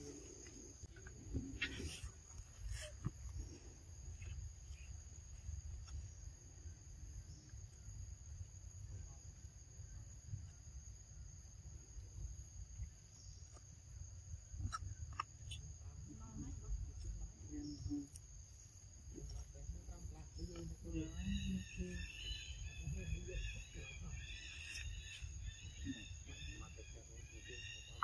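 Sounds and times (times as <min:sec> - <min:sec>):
insects buzzing: 0:00.0 - 0:28.0
pulsing high insect call: 0:00.0 - 0:28.0.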